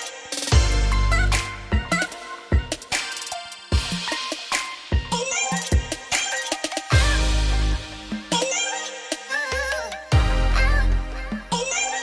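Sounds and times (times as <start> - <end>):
electronic music with drum-machine beat: 0.0 - 12.0.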